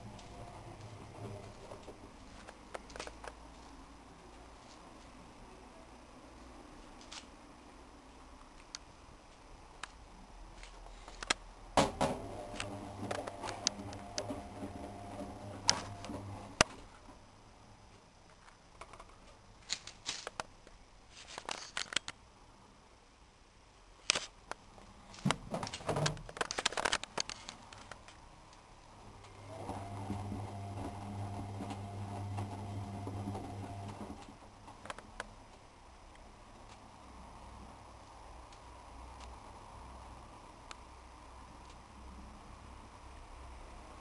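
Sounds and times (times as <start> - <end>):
low steady hum: 0.0 - 19.6, 27.3 - 44.0.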